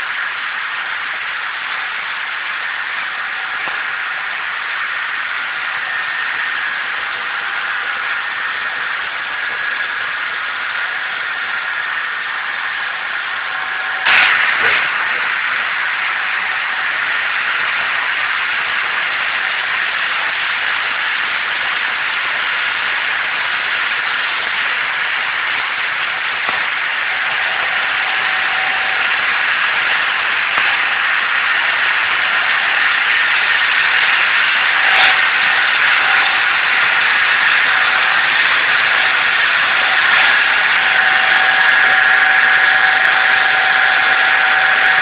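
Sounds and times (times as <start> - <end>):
braiding machine running: 0.0 - 45.0.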